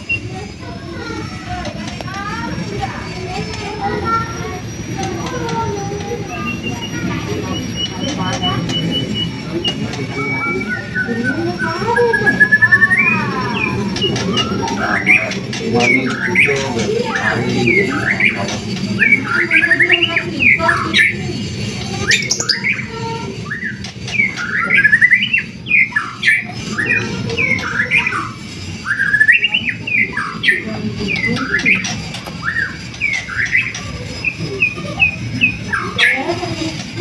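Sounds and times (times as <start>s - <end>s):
bird whistling song: 0.0s - 0.4s, 1.0s - 36.5s.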